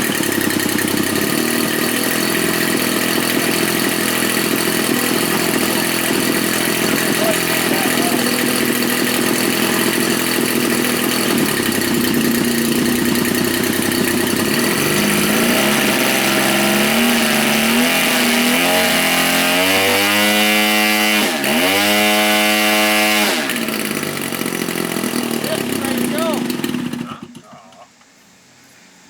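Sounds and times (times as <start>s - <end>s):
model airplane gas engine: 0.0s - 27.9s.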